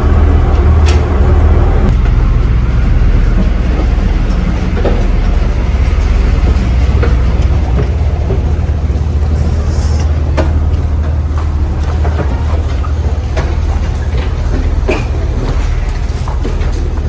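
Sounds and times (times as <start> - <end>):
ferry engine drone: 0.0 - 17.0.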